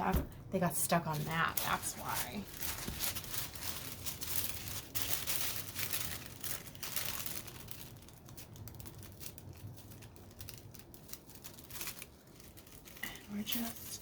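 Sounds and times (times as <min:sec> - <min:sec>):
paper wrapping crinkling: 0:00.7 - 0:14.0.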